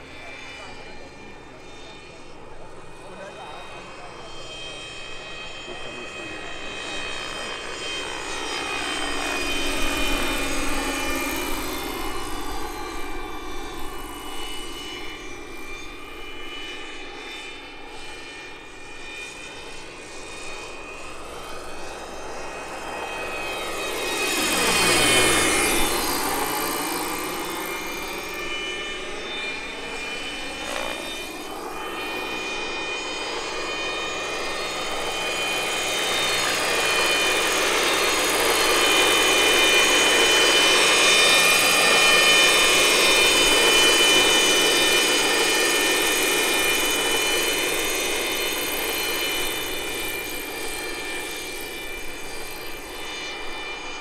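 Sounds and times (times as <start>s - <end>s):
helicopter rotor noise: 0.0s - 54.0s
model helicopter turbine whine: 0.0s - 54.0s.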